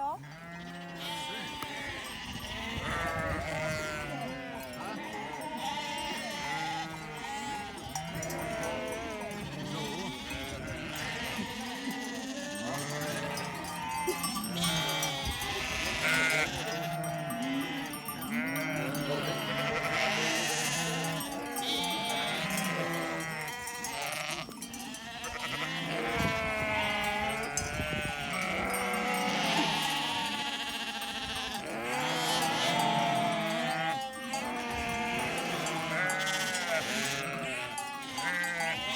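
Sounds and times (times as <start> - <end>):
sheep bleating: 0.0 - 38.9.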